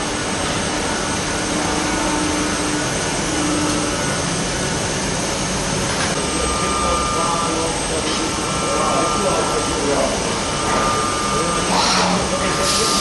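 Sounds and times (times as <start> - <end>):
machine running steadily: 0.0 - 13.0.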